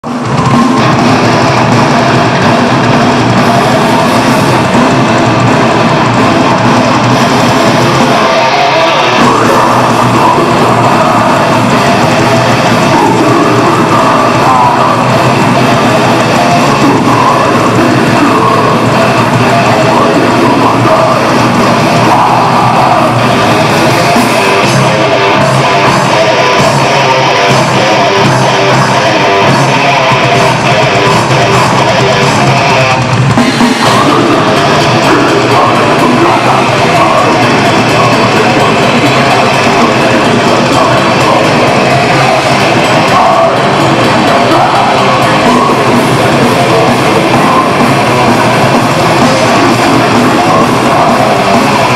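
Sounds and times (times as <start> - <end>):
distorted electric guitars: 0.0 - 51.9
drum kit: 0.0 - 51.9.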